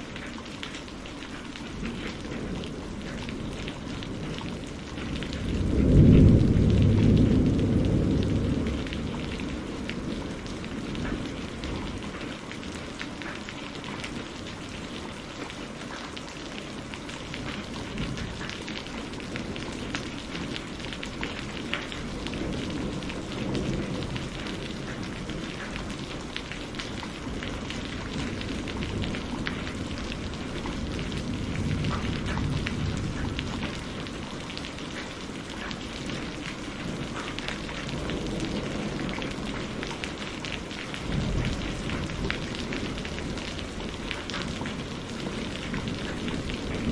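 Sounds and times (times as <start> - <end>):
heavy rain: 0.0 - 46.9
thunder rumbling: 1.6 - 12.9, 16.6 - 46.9.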